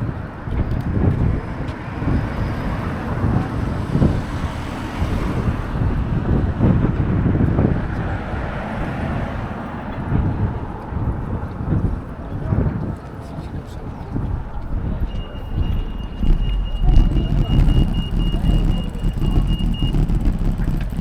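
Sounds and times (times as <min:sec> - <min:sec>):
road traffic noise: 0:00.0 - 0:21.0
wind buffeting microphone: 0:00.0 - 0:21.0.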